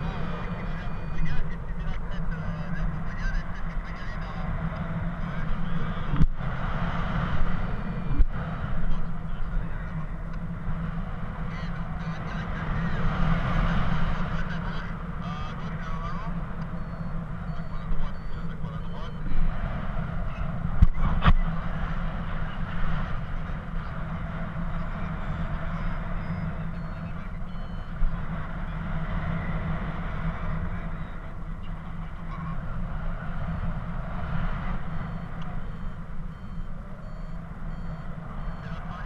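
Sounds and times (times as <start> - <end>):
variometer beeps changing pitch: 0.0 - 6.2, 7.4 - 10.6, 11.4 - 21.6, 22.2 - 39.0
wind rushing over microphone: 0.0 - 39.0.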